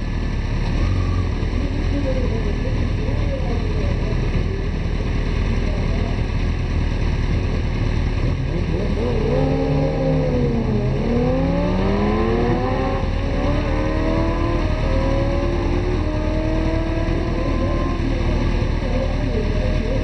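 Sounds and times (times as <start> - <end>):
low rumble: 0.0 - 20.0
motorcycle accelerating hard: 0.0 - 20.0.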